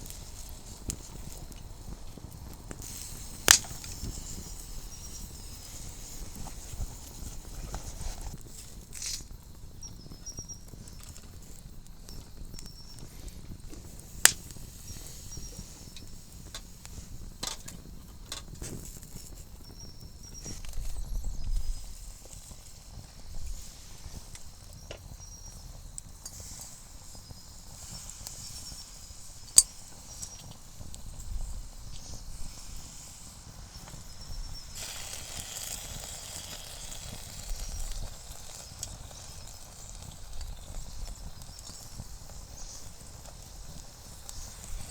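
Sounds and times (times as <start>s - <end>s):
campfire crackling and popping: 0.0s - 44.9s
soft hiss: 0.0s - 44.9s.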